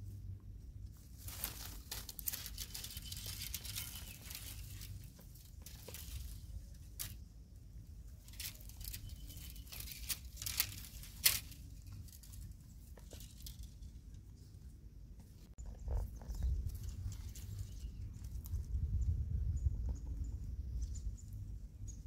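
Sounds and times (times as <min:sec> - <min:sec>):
branches and leaves rustling: 0:00.0 - 0:21.6.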